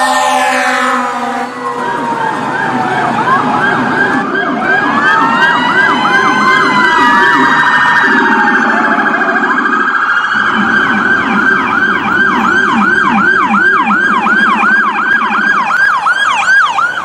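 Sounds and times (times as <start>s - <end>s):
siren fast warble: 0.0s - 17.0s
siren rapid yelp: 0.0s - 17.0s.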